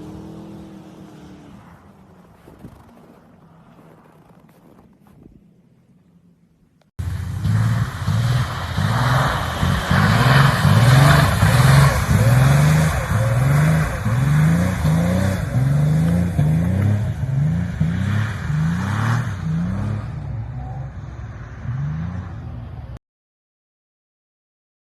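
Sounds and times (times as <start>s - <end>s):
car engine revving: 0.0s - 4.5s, 7.0s - 23.0s.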